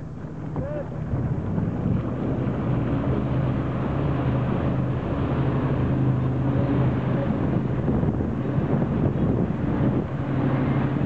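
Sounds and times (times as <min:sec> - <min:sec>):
motorboat engine drone: 0:00.0 - 0:11.0
water noise: 0:00.0 - 0:11.0
wind noise: 0:00.0 - 0:11.0.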